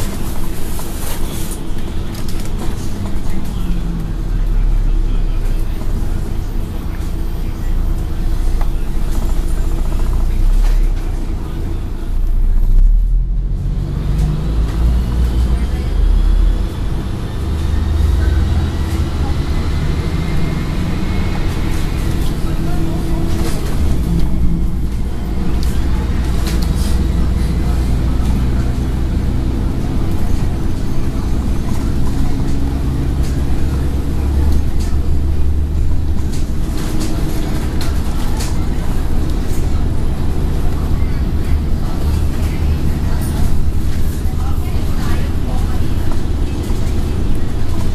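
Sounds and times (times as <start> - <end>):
bus diesel engine drone: 0.0 - 47.9
road noise: 0.0 - 47.9.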